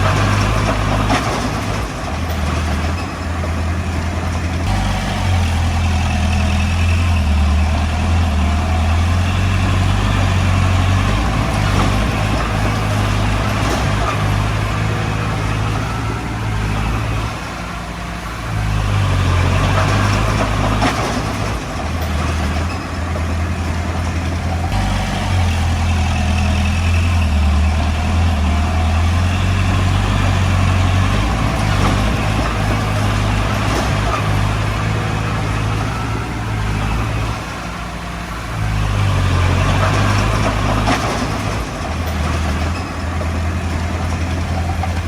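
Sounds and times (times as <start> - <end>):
heavy diesel engine drone: 0.0 - 45.0.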